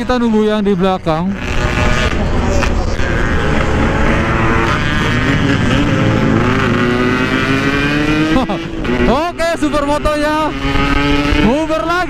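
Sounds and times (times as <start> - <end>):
motorcycle engine running: 1.0 - 12.0.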